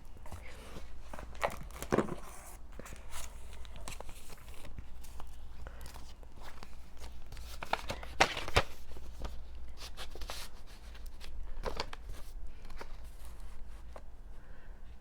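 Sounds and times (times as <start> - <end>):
packaging rustling and crinkling: 0.2 - 14.0.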